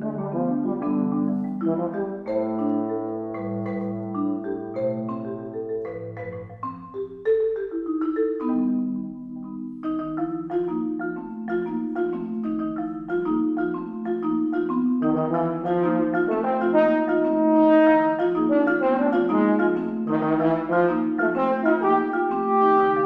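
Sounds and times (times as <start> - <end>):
marimba playing: 0.0 - 23.0.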